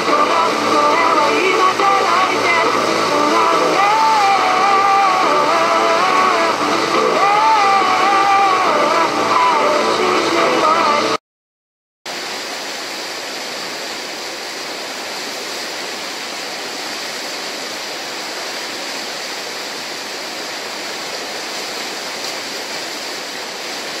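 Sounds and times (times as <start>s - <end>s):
whitewater churning: 0.0s - 11.2s, 12.1s - 24.0s.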